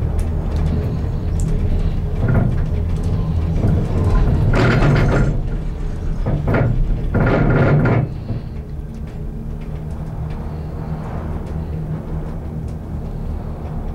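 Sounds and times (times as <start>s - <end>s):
gondola cabin rumbling: 0.0s - 13.9s.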